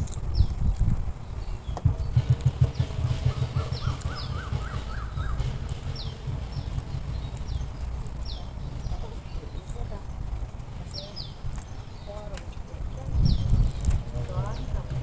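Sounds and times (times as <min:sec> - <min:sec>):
birds whistling: 0:00.3 - 0:12.4, 0:13.0 - 0:14.8.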